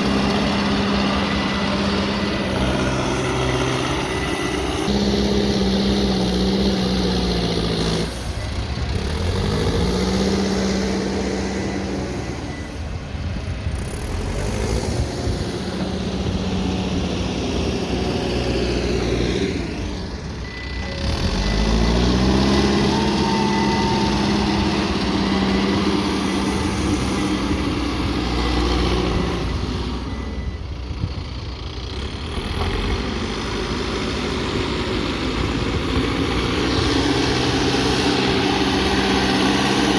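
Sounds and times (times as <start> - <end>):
diesel engine revving under load: 0.0 - 39.9.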